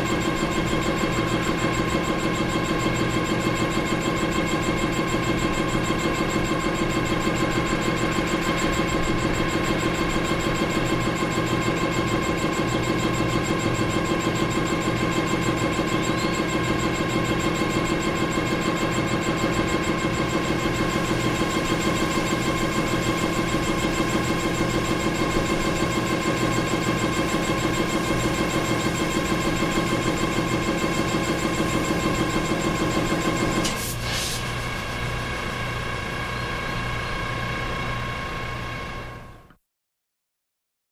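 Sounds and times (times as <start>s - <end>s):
compressor shutting off burst: 0.0s - 39.3s
air compressor engine running: 0.0s - 39.5s.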